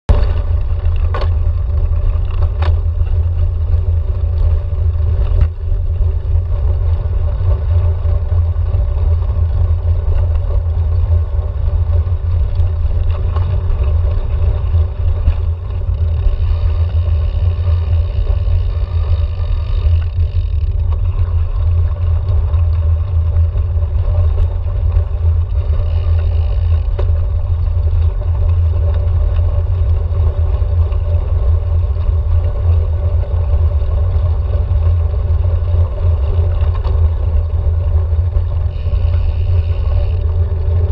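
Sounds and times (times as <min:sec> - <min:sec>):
bike tyre and frame vibration: 0:00.0 - 0:40.9.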